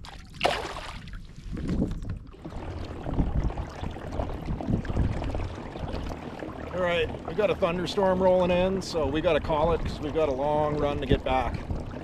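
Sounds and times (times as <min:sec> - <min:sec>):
boat hull and water rumble: 0:00.0 - 0:12.0
wind buffeting microphone: 0:00.7 - 0:12.0.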